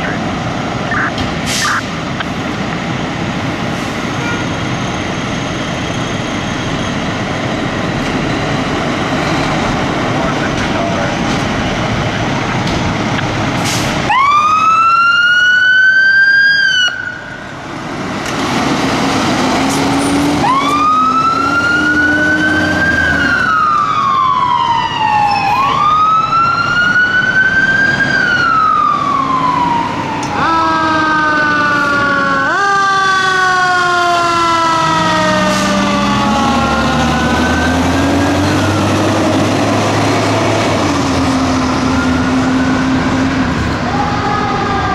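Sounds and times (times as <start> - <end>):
fire engine sirens wailing: 0.0 - 44.9
truck engines pulling away: 0.0 - 44.9.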